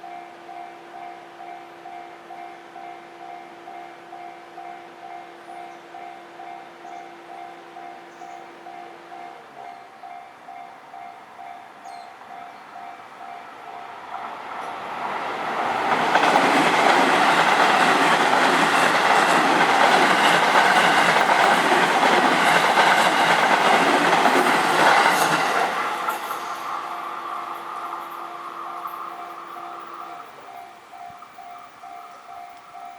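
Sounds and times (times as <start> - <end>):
level-crossing warning bell: 0.0 - 14.3, 15.7 - 32.9
train passing: 0.0 - 32.9.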